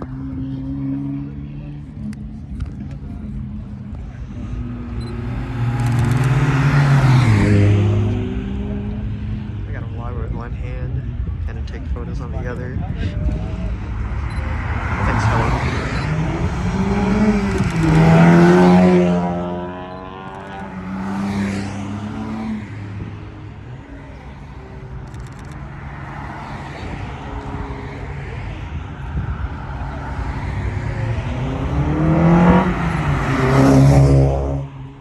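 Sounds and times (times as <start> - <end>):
cars revving past: 0.0 - 35.0.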